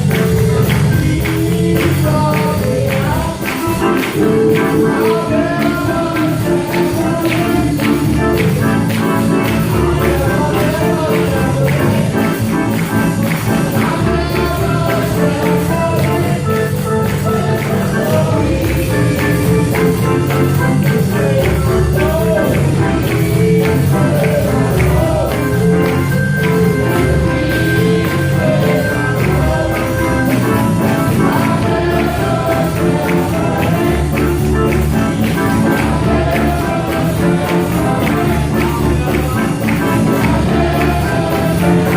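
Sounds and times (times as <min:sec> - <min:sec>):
gospel music: 0:00.0 - 0:41.9
percussion keeping time: 0:00.0 - 0:41.9
person singing: 0:00.0 - 0:41.9.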